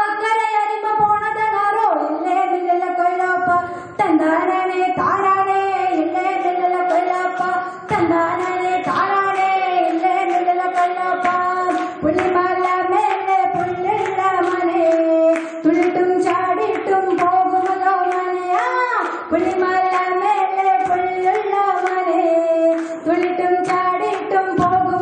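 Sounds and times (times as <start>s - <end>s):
woman singing folk song: 0.0s - 25.0s.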